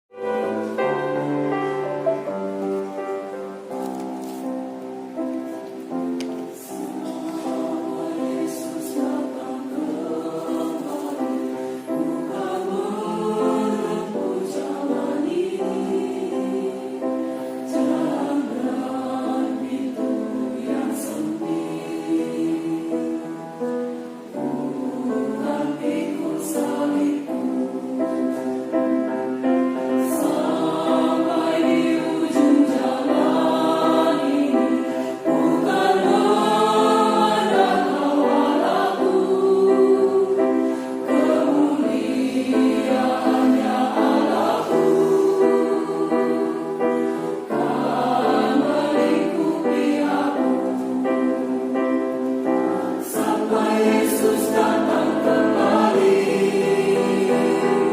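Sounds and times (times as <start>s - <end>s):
choir singing in parts: 0.1s - 57.9s.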